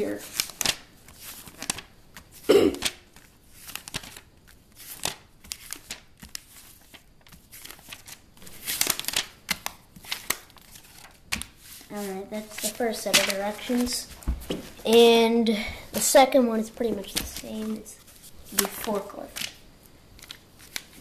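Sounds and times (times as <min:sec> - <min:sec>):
paper pages rustling: 0:00.0 - 0:19.6, 0:20.2 - 0:21.0.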